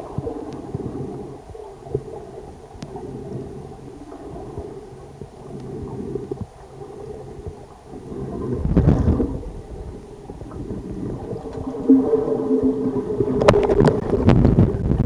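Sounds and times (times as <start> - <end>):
steady low hum: 0.0 - 15.0
underwater rumble of water: 0.0 - 15.0.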